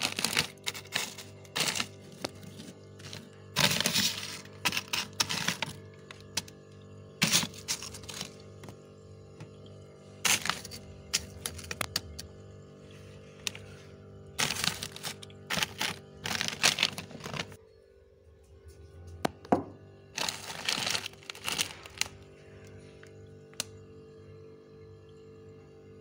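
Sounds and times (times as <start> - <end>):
frost crunching and crackling: 0.0 - 17.6, 20.1 - 24.1
steady low hum: 0.0 - 26.0.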